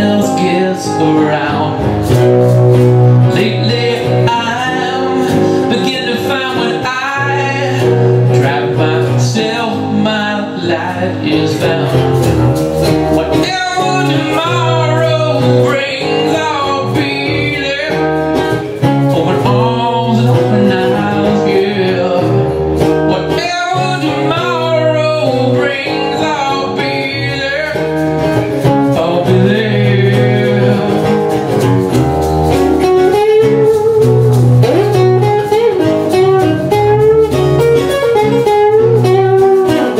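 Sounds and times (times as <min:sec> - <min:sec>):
man singing: 0:00.0 - 0:02.4, 0:03.1 - 0:39.9
acoustic guitars strumming: 0:00.0 - 0:39.9.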